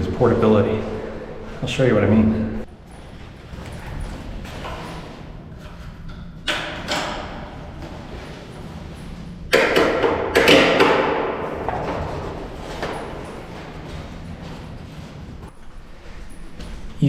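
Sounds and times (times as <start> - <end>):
scooter frame clanking: 2.7 - 17.0.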